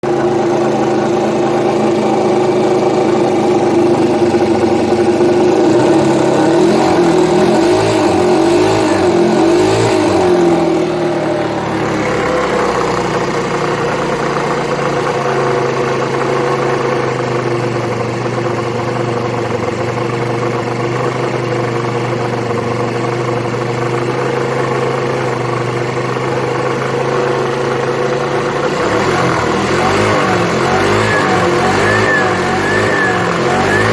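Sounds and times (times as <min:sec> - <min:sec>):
engine rattle at idle: 0:00.0 - 0:33.9
scooter engine running: 0:00.0 - 0:33.9.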